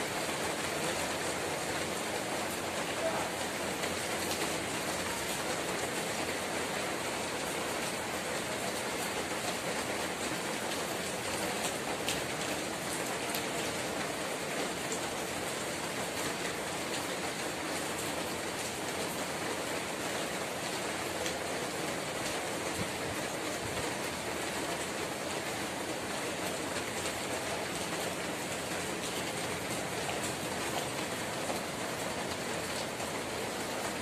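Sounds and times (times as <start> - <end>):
steady rain on street: 0.0 - 34.0.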